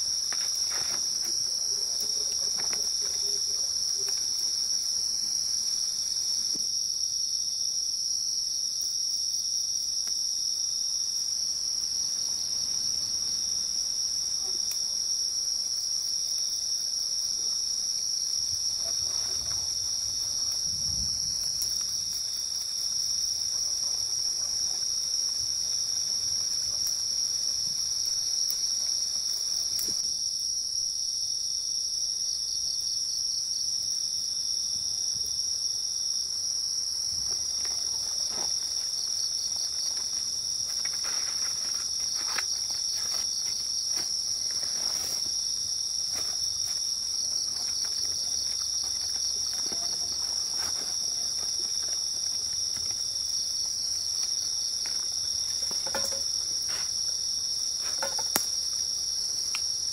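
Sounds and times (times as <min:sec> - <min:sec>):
night insects chorus: 0:00.0 - 0:59.9.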